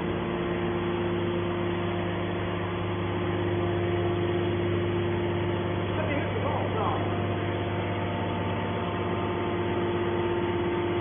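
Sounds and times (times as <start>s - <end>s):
hydraulic baler motor humming: 0.0s - 11.0s.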